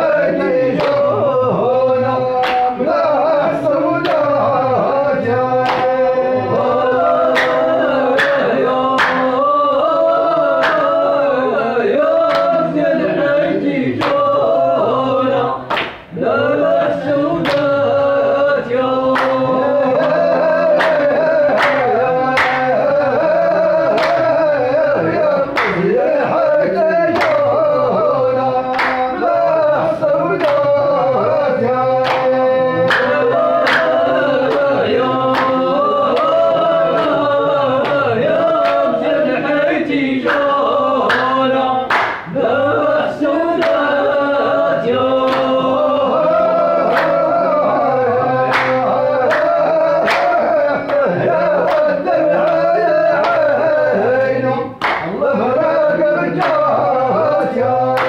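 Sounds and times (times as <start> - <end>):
hand claps: 0.0 - 11.4, 12.0 - 12.8, 13.6 - 15.0, 15.6 - 16.2, 16.8 - 58.0
men singing in unison: 0.0 - 58.0.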